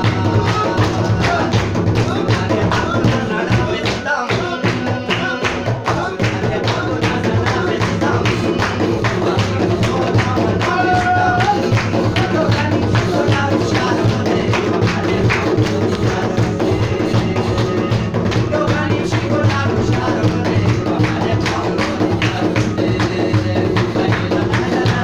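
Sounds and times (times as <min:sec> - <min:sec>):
person singing: 0:00.0 - 0:25.0
rhythmic hand clapping: 0:00.0 - 0:25.0.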